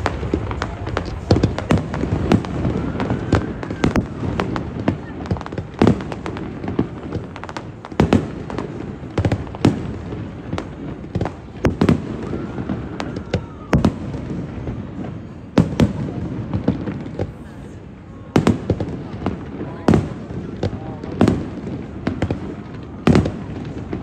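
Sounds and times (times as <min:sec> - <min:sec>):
background hiss and crackle: 0:00.0 - 0:24.0
firework bangs: 0:00.0 - 0:24.0.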